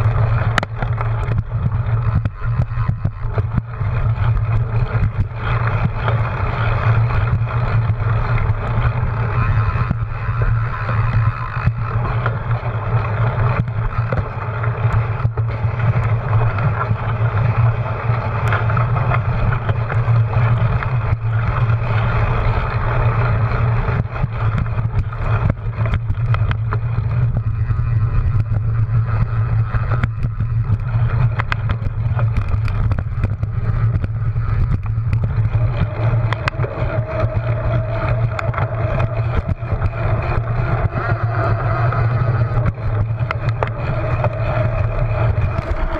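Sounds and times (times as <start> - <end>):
bike knocks and rattles: 0.0 - 45.9
tyre hum on pavement: 0.0 - 45.9
wind buffeting camera: 0.0 - 45.9.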